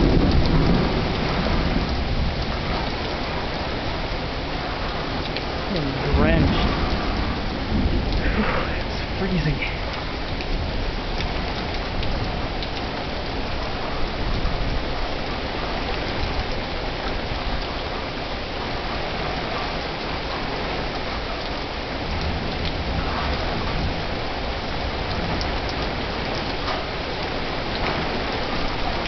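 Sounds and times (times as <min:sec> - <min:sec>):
low thunder rumble: 0:00.0 - 0:18.2, 0:21.8 - 0:29.0
heavy rain pouring: 0:00.0 - 0:29.0.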